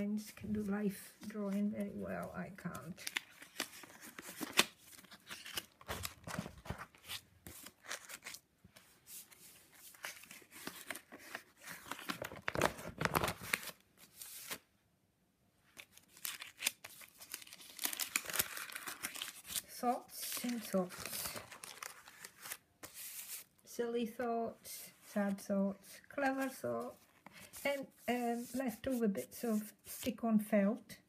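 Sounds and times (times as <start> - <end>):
plastic and paper pages rustling: 0.3 - 14.6, 15.7 - 23.6, 25.1 - 30.2.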